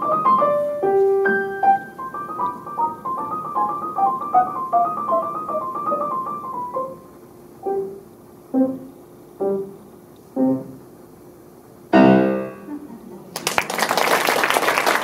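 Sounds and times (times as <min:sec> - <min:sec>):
grand piano chords: 0:00.0 - 0:11.1, 0:11.9 - 0:13.0.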